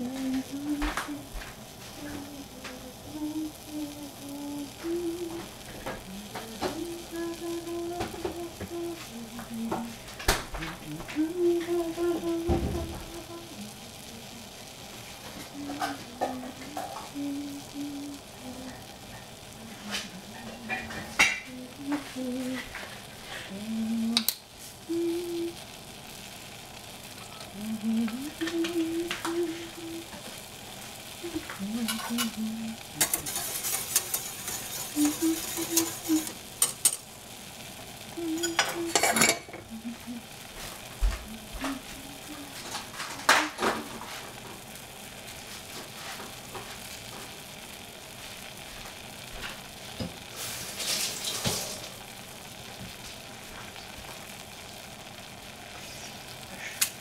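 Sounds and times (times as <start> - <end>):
fruit sizzling in a saucepan: 0.0 - 57.0.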